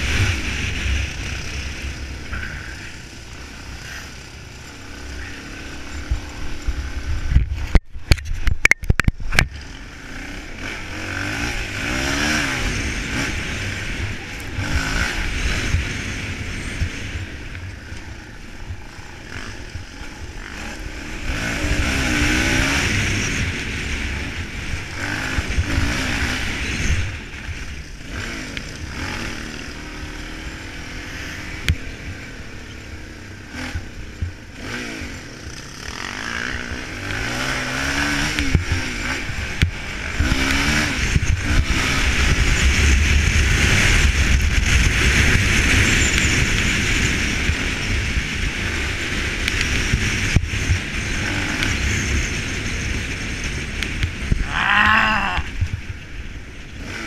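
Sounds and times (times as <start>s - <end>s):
dirt bike engine revving: 0.0s - 7.8s, 9.3s - 55.8s, 56.6s - 57.0s
low rush: 0.0s - 56.1s.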